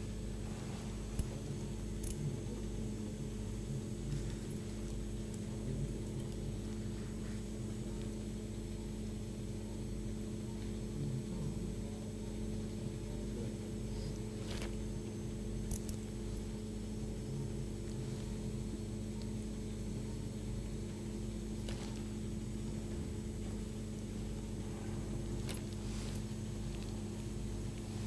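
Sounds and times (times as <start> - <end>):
machine hum with low tones: 0.0 - 28.0.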